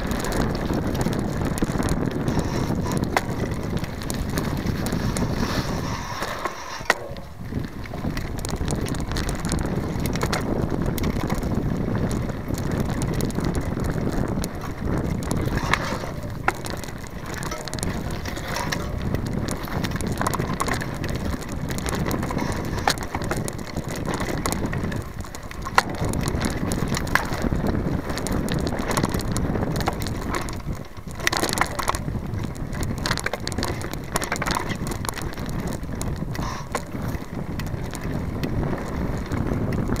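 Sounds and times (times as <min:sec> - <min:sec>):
bike tyres rumbling on dirt: 0:00.0 - 0:40.0.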